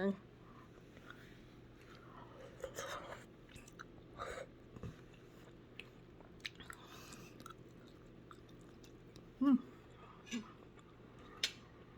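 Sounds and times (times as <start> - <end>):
person chewing noisily: 0.9 - 11.5.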